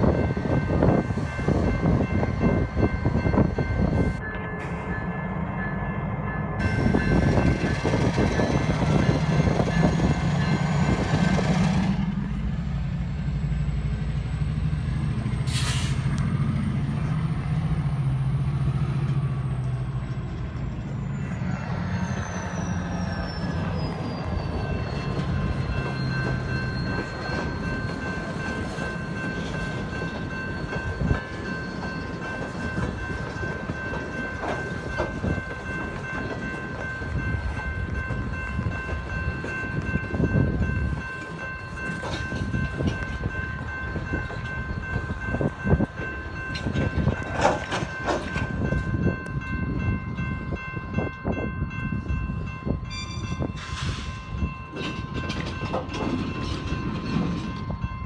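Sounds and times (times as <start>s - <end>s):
crossing bell ringing: 0.0s - 58.0s
train wheels rumbling on rails: 0.0s - 58.0s.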